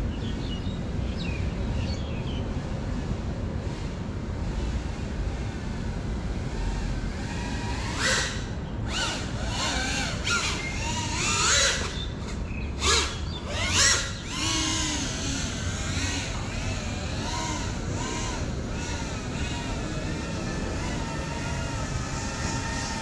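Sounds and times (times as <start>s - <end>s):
steady background noise: 0.0s - 23.0s
drone motors whining: 3.6s - 23.0s.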